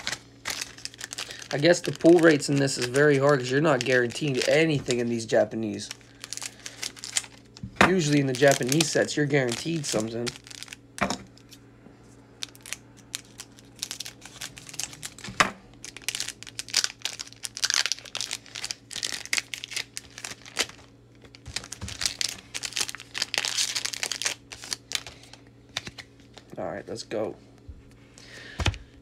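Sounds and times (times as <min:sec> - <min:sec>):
foil wrapper crinkling: 0:00.0 - 0:11.6, 0:12.4 - 0:26.5.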